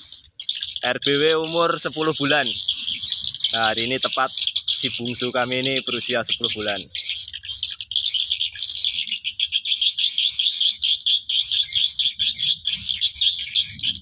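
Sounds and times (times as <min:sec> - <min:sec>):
swiftlet twittering: 0:00.0 - 0:14.0.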